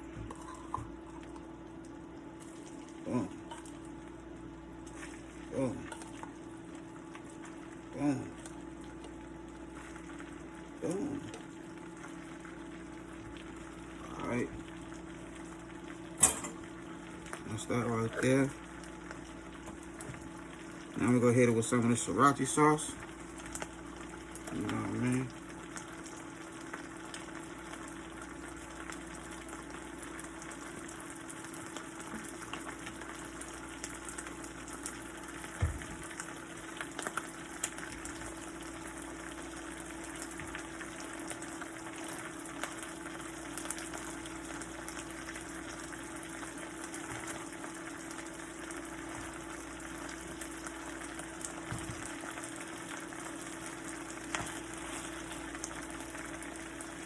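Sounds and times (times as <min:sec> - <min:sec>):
food sizzling in a pan: 0:02.2 - 0:57.0.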